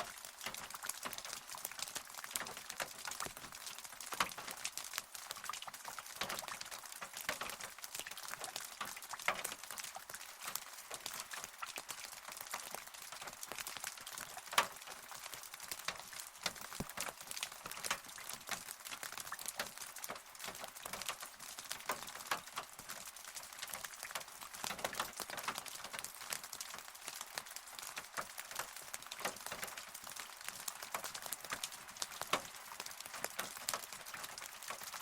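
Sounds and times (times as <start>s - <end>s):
light rain hiss: 0.0s - 35.0s
raindrops ticking: 0.0s - 35.0s.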